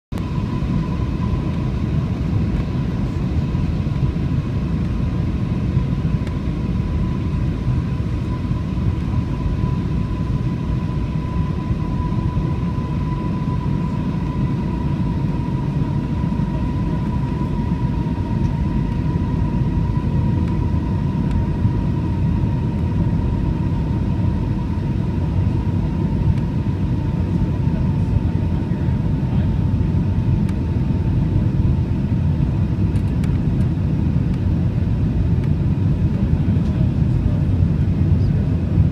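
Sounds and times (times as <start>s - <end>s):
jet engine rumble and airflow: 0.1s - 38.9s.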